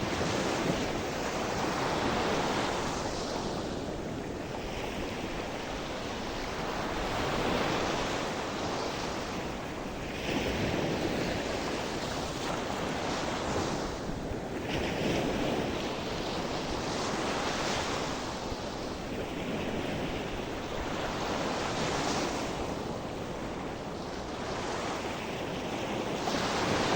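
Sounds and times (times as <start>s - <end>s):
sea waves washing in: 0.0s - 26.9s.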